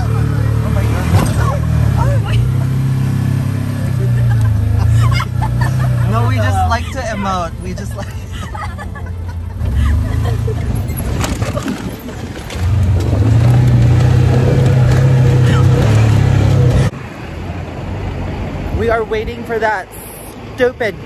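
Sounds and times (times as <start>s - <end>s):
motor vehicle droning: 0.0s - 19.1s.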